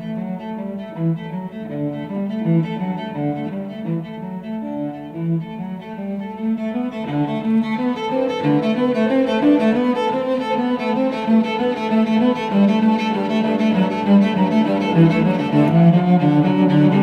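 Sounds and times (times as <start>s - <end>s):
bowed cello notes: 0.0s - 17.0s.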